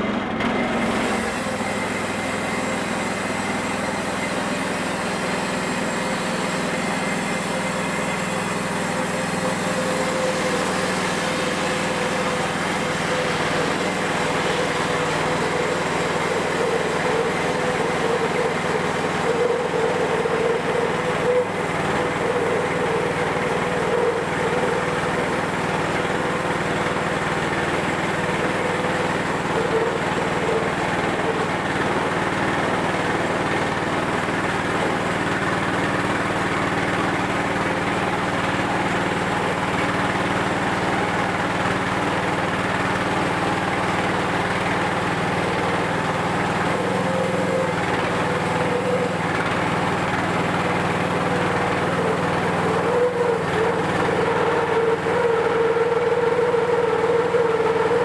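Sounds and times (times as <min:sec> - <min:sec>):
band sawmill cutting log: 0:00.0 - 0:58.0
saw blade whine: 0:00.0 - 0:58.0.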